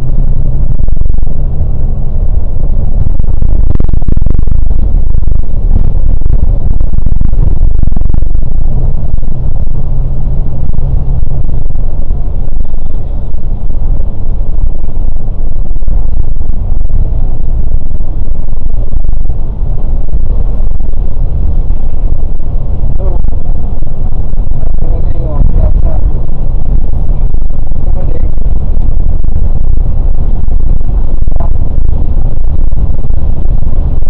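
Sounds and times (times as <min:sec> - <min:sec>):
diesel engine rumble: 0:00.0 - 0:34.0
road noise: 0:00.0 - 0:34.0.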